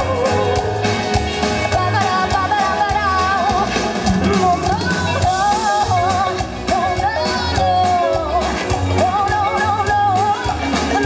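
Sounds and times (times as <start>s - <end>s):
live pop band playing: 0.0s - 11.0s
woman singing: 0.0s - 11.0s.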